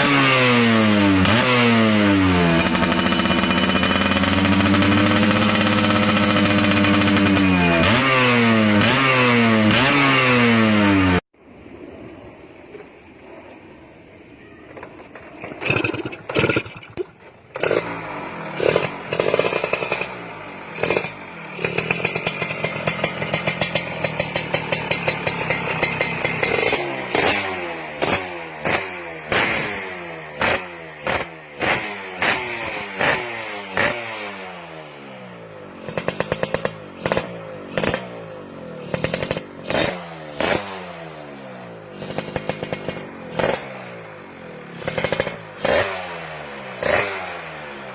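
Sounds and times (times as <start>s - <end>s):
two-stroke engine revving: 0.0s - 11.3s, 15.6s - 47.9s.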